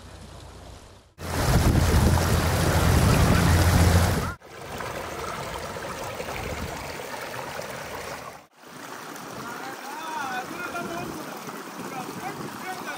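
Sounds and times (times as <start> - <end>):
stream running over stones: 0.0 - 12.9.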